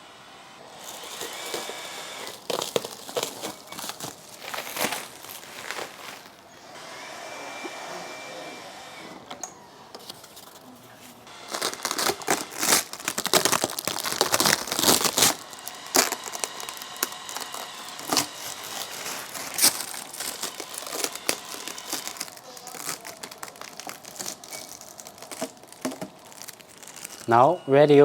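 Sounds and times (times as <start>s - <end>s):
plastic packaging crinkling: 0.8s - 6.6s, 10.0s - 27.5s.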